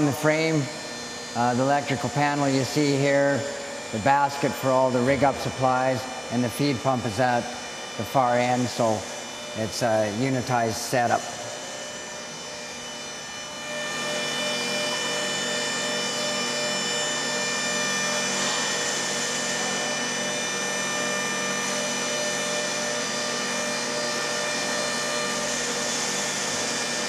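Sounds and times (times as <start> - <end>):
hydraulic pump motor whining: 0.0 - 27.0.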